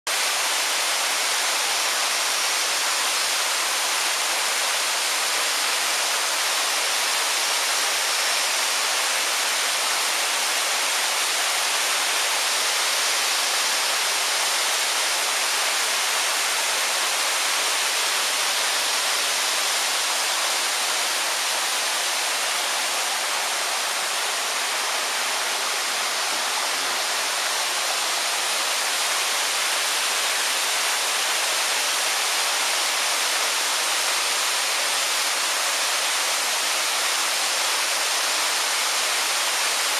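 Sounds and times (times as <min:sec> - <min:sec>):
waterfall splashing: 0:00.1 - 0:39.9.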